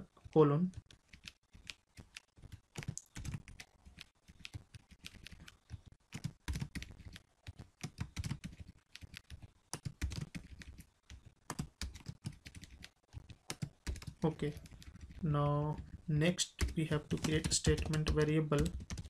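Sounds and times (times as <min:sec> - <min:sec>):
keyboard typing: 0:00.0 - 0:19.0.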